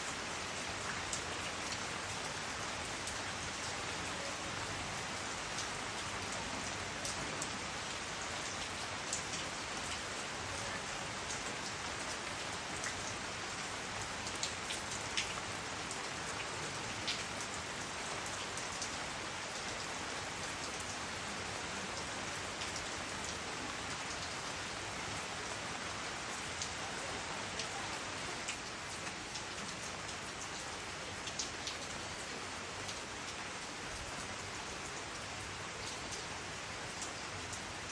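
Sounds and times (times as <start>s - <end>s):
rain falling on plants: 0.0s - 37.9s.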